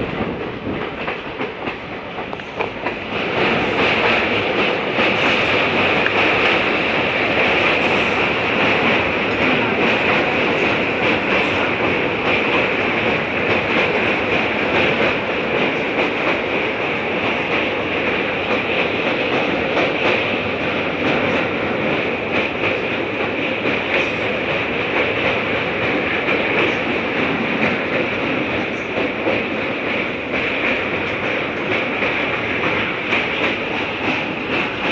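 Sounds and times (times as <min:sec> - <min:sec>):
faint clicks from rails: 0:00.0 - 0:34.9
train wheel and track noise: 0:00.0 - 0:34.9.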